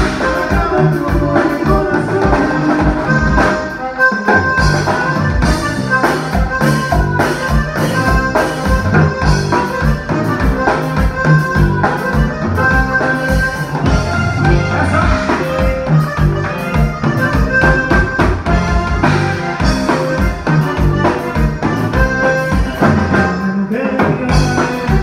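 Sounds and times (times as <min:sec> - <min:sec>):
button accordion melody: 0:00.0 - 0:25.0
drum kit beat: 0:00.0 - 0:25.0
electric bass: 0:00.0 - 0:25.0.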